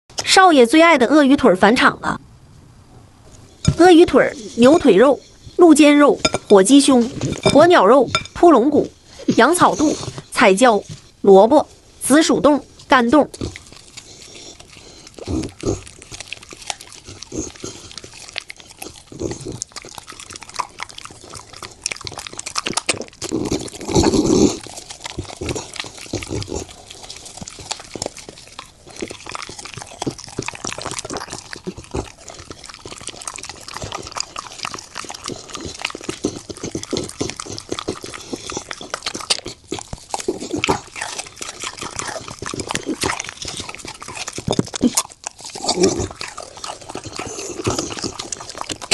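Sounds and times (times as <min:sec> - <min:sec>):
wet mouth sounds: 0:03.3 - 0:11.4, 0:12.0 - 0:48.9
dog chewing and crunching bone: 0:03.3 - 0:48.9.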